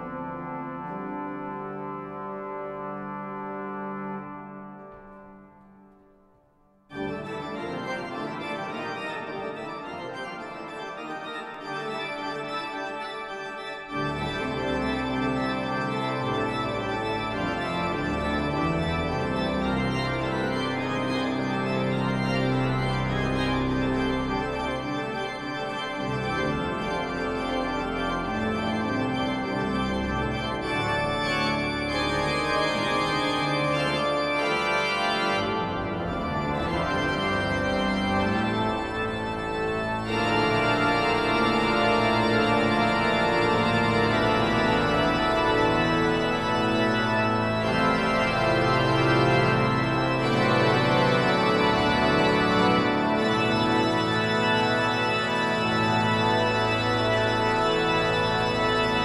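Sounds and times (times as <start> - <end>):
pipe organ playing: 0.0 - 6.0, 6.9 - 59.0
deep organ pedal bass notes: 6.9 - 59.0.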